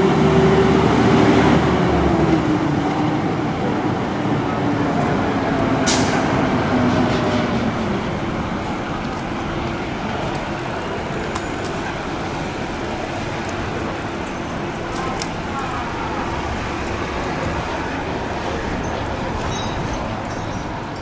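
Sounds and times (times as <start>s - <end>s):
heavy diesel engines: 0.0s - 21.0s.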